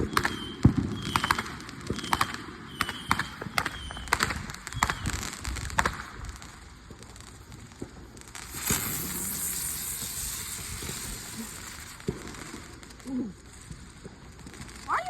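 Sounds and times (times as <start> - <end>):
fireworks cracking: 0.0 - 15.0.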